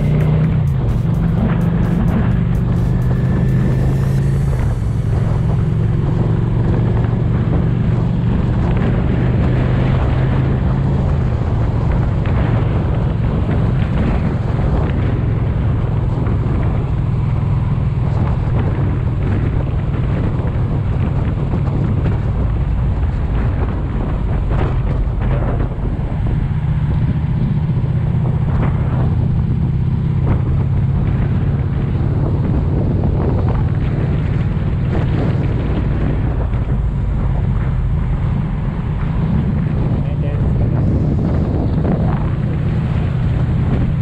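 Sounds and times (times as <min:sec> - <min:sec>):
motorcycle engine droning: 0:00.0 - 0:44.0
wind rushing over microphone: 0:00.0 - 0:44.0.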